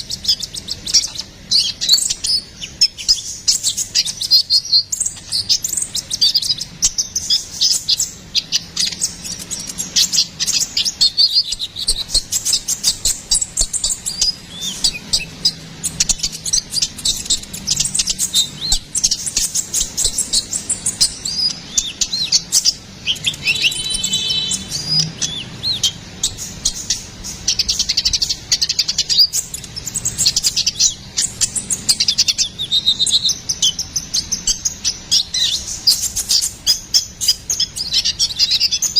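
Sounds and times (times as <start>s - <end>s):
bird high-pitched chirps: 0.0s - 38.9s.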